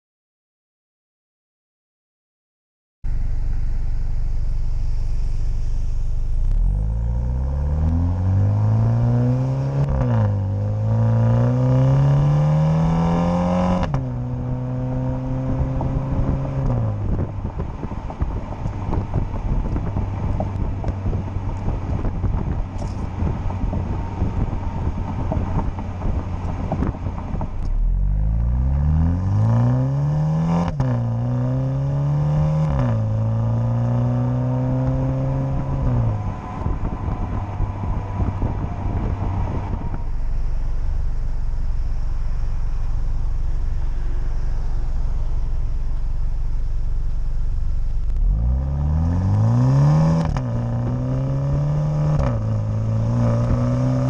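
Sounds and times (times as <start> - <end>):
car engine exhaust accelerating: 3.0 - 54.0.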